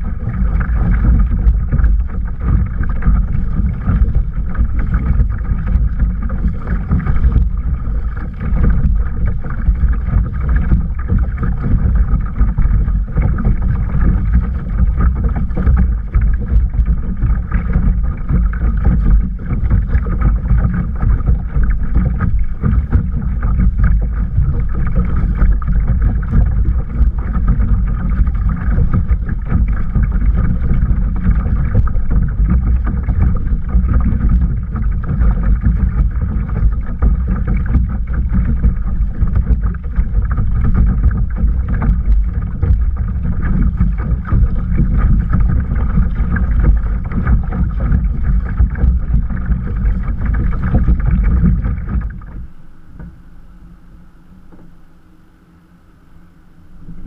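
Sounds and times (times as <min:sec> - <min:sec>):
wind rumble on microphone: 0:00.0 - 0:53.1
water splashing along kayak hull: 0:00.0 - 0:57.0.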